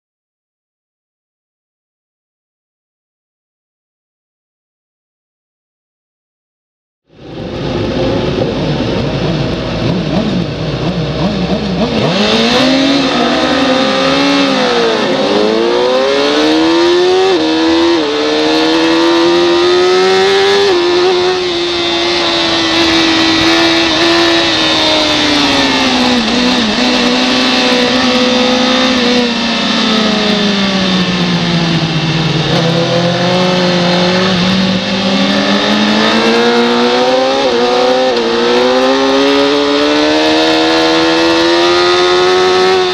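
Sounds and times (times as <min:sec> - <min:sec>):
motorcycle engine revving: 0:07.1 - 0:42.9.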